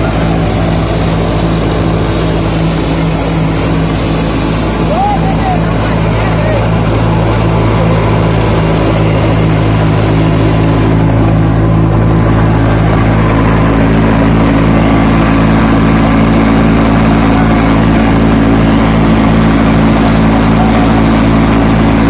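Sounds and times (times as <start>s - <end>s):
combine harvester engine humming: 0.0s - 22.0s.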